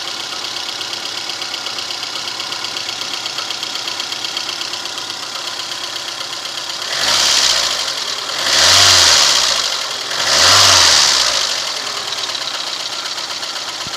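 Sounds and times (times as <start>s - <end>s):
car engine idling and revving: 0.0s - 13.9s.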